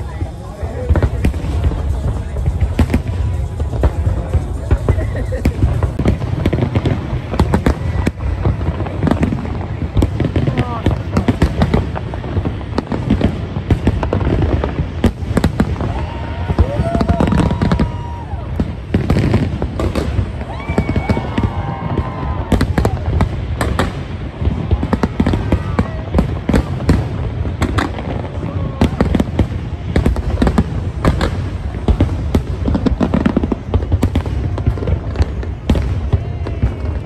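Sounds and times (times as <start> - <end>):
continuous low rumble: 0.0 - 37.0
fireworks bangs and crackles: 0.0 - 37.0
voices in background: 0.0 - 37.0.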